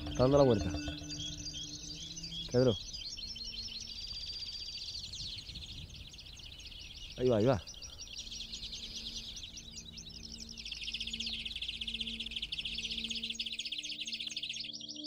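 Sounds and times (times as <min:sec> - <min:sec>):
greenfinch twittering trill: 0:00.0 - 0:15.0.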